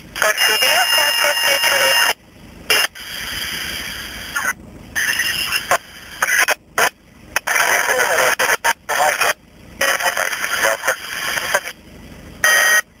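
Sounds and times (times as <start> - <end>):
scratchy radio static: 0.1 - 11.8.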